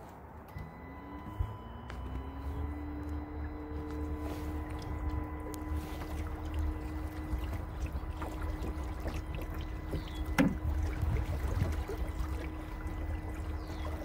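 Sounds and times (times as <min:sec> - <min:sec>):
steady hum: 0:00.5 - 0:14.0
water lapping against hull: 0:00.6 - 0:14.0
low rumble: 0:00.7 - 0:14.0.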